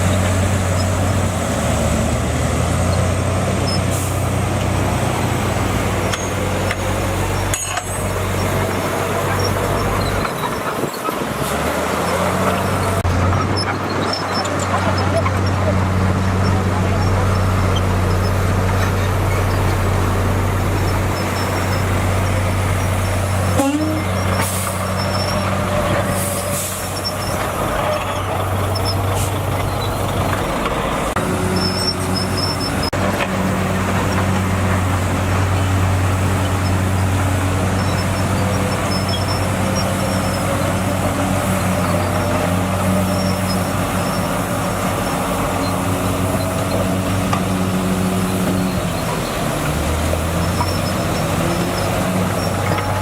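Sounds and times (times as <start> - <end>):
diesel engine of heavy machine: 0.0 - 53.0.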